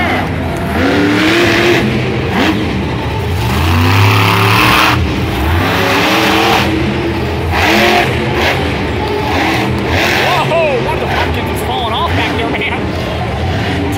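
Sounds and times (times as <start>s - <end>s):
truck engine revving: 0.0s - 13.9s.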